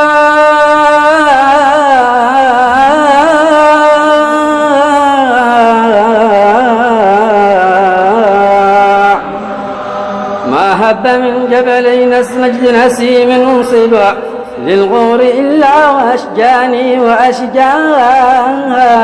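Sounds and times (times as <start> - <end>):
man singing wordless melody: 0.0 - 9.7, 10.4 - 19.0.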